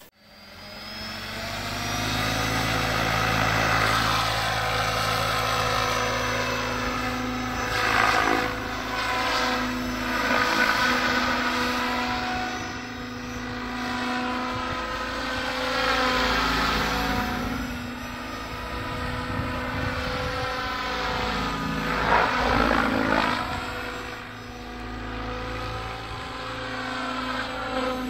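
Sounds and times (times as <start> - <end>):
rc helicopter rotor buzz and whine: 0.0 - 28.0.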